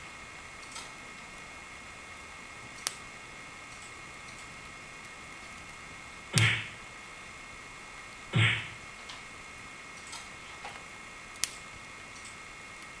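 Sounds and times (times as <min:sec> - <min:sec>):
wood fire popping and crackling: 0:00.1 - 0:13.0.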